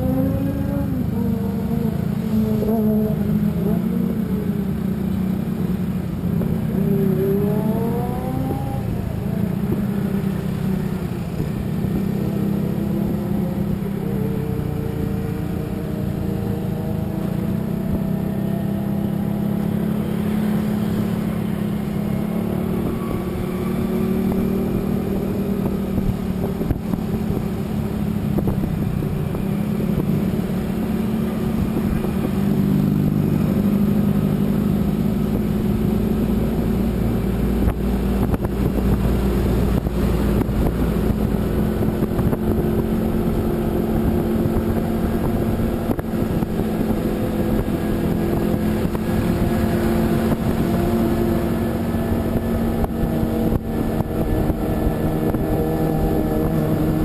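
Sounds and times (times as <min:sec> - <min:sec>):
road and wind rumble: 0:00.0 - 0:57.0
vehicle engine running: 0:00.0 - 0:57.0.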